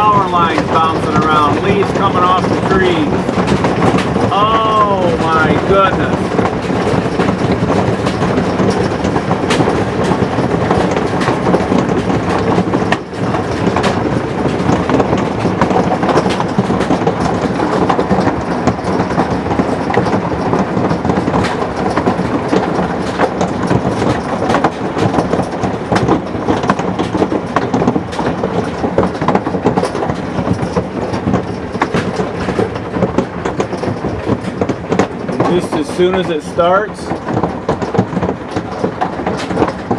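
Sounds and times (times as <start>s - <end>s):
hailstones clattering: 0.0s - 39.9s.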